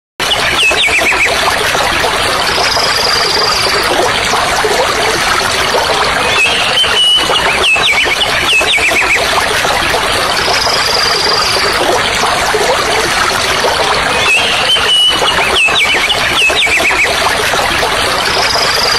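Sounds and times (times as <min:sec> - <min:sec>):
stream running over rocks: 0:00.6 - 0:18.9.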